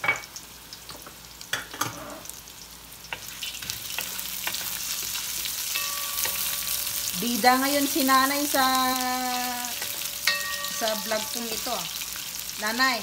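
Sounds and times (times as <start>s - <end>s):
garlic and ginger sizzling in oil: 0.0s - 13.0s.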